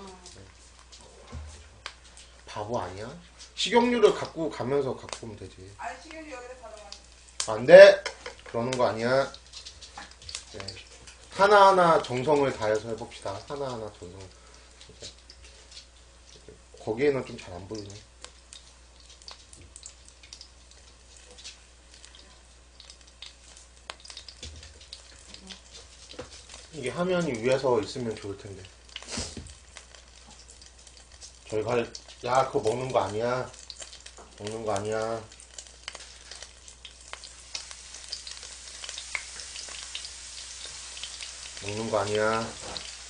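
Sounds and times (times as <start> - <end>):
fish frying crackling in oil: 0.0 - 43.0.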